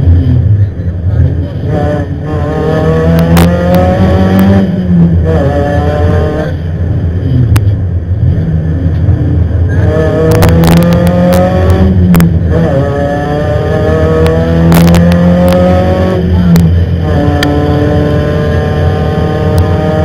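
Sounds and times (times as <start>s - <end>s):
rally car engine accelerating: 0.0s - 20.0s.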